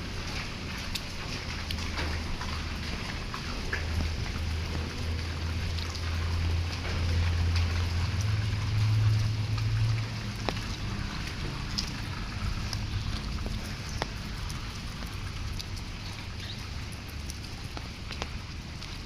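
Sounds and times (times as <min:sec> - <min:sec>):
light drizzle hissing: 0:00.0 - 0:19.0
vehicle engine humming: 0:00.0 - 0:19.0.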